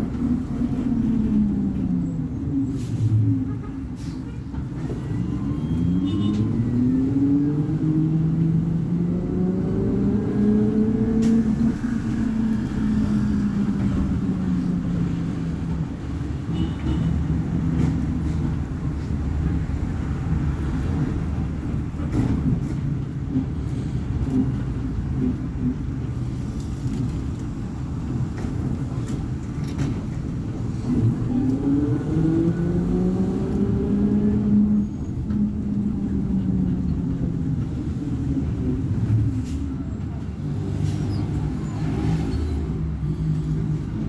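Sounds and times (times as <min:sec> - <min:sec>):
bus diesel engine running: 0:00.0 - 0:05.2, 0:06.7 - 0:44.0.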